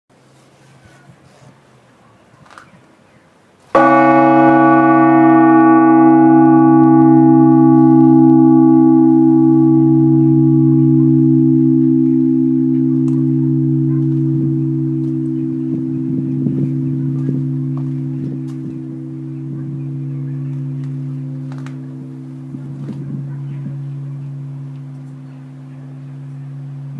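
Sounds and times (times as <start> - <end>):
large church bell ringing: 3.8 - 26.9.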